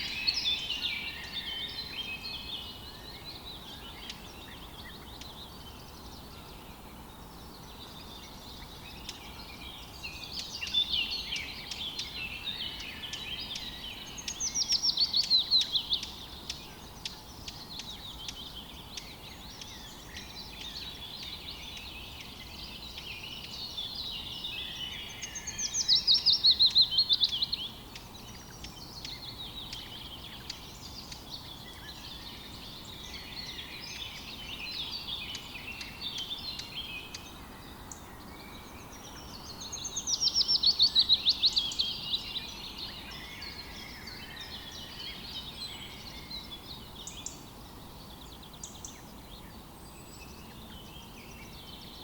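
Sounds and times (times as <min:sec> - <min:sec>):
birds chirping and twittering: 0:00.0 - 0:52.0
faint background hiss: 0:00.0 - 0:52.0.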